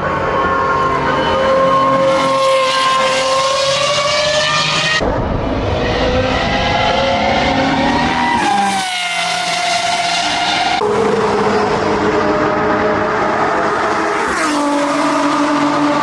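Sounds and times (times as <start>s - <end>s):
high-pitched racing engine: 0.0s - 16.0s.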